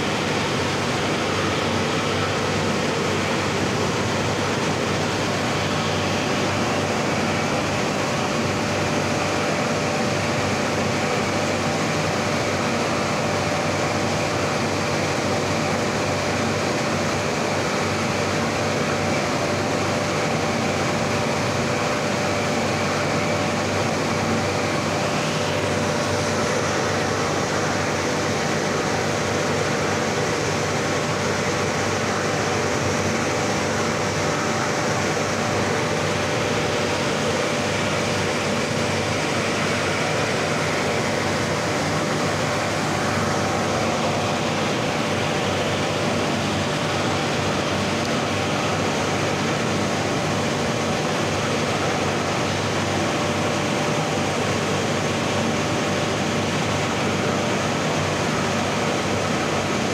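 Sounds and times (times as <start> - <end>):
furnace burner and blower rushing: 0.0 - 59.9.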